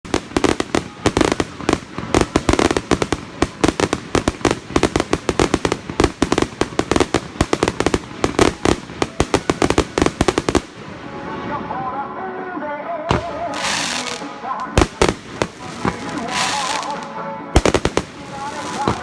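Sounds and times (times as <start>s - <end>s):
fireworks banging: 0.0s - 10.9s, 13.1s - 19.0s.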